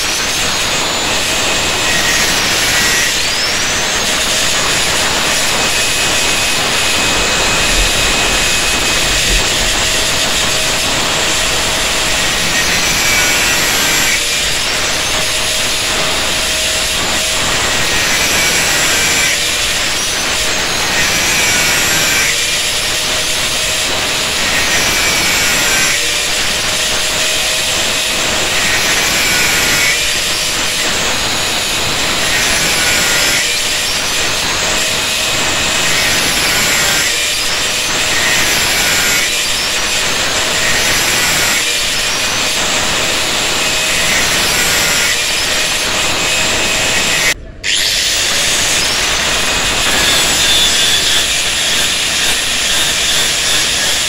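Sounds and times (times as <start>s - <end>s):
angle grinder grinding steel: 0.0s - 54.0s.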